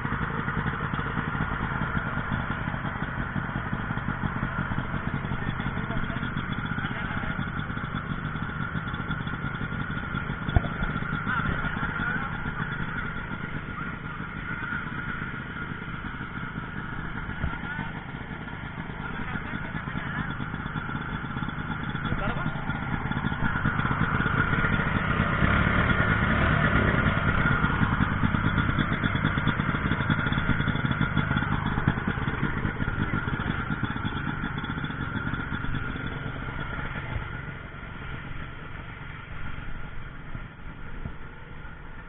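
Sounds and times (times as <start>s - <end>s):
sharp engine knock: 0.0s - 37.5s
engine running steadily: 0.0s - 42.0s.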